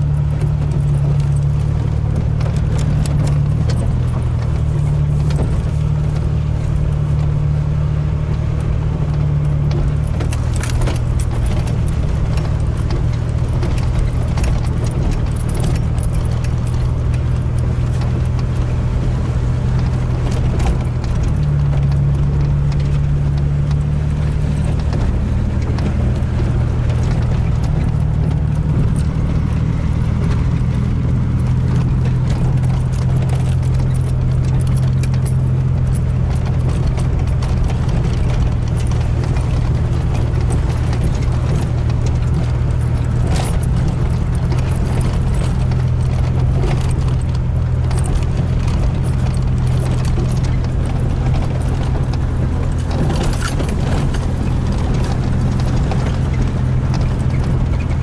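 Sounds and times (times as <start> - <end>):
clicks and rattles of truck body: 0.0 - 58.0
truck engine running: 0.0 - 58.0.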